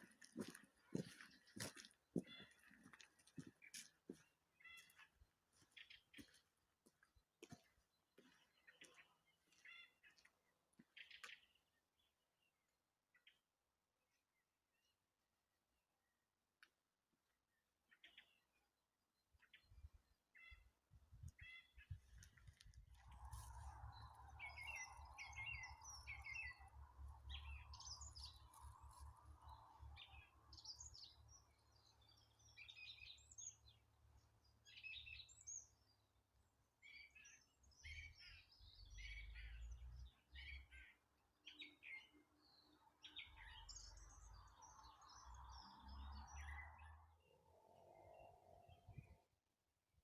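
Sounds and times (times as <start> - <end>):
songbirds chirping: 0.0 - 49.6.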